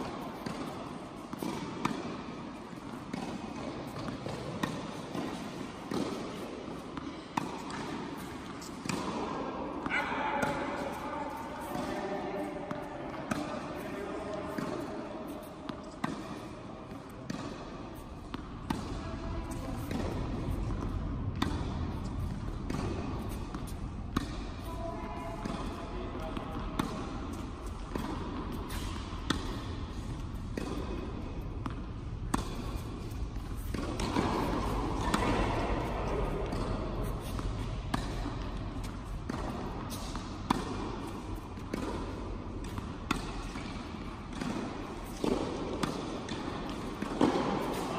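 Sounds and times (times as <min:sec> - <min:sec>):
rackets striking tennis ball: 0:00.0 - 0:47.9
tennis ball bouncing: 0:00.0 - 0:47.9.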